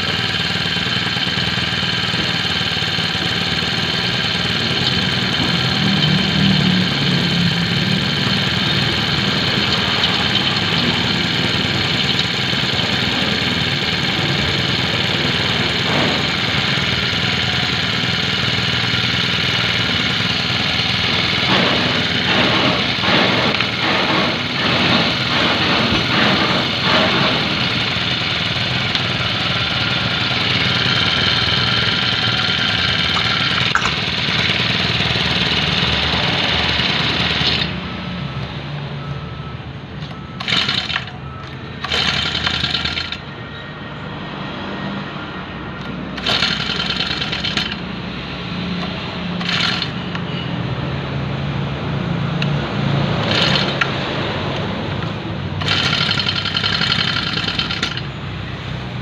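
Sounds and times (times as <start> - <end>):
grass cutter engine revving: 0.0 - 37.8, 40.1 - 43.3, 45.8 - 50.3, 52.4 - 58.2.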